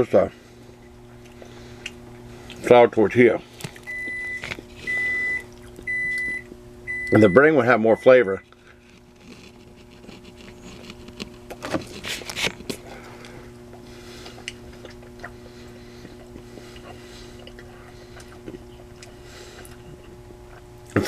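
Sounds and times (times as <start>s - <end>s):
steady low hum: 0.0s - 21.0s
person chewing and eating: 0.5s - 2.7s, 3.5s - 6.5s, 8.5s - 21.0s.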